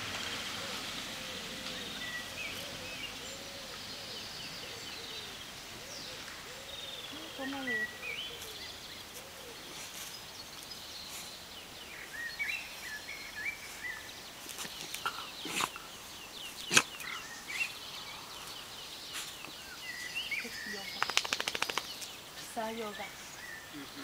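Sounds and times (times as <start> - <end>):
outdoor hiss: 0.0 - 24.0
songbirds chirping: 0.0 - 24.0.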